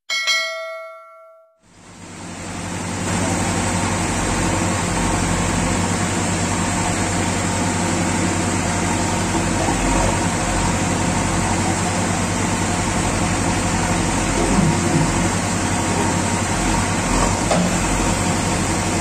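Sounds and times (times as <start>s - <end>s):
diesel engine running: 1.7s - 19.0s
backhoe digging sand: 2.6s - 19.0s.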